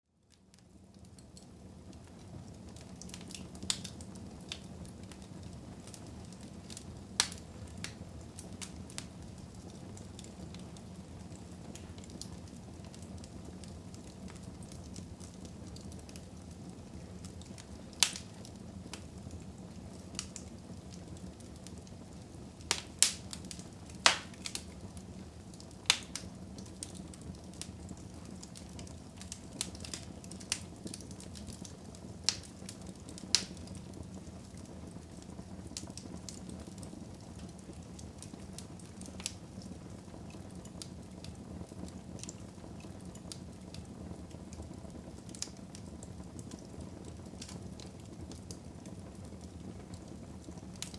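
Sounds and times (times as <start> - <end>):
fire crackling in fireplace: 0.1 - 50.9
loud snaps of fire: 0.3 - 50.9.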